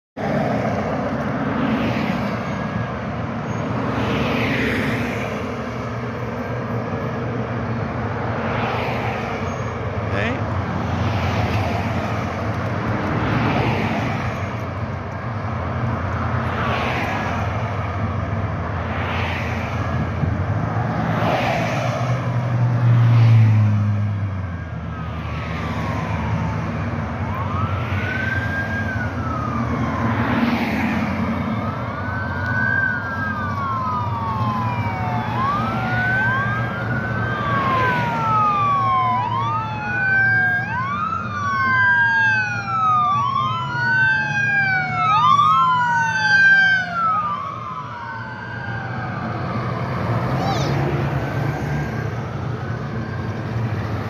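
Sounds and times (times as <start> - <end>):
road traffic passing: 0.2 - 54.0
police siren wailing: 0.3 - 54.0.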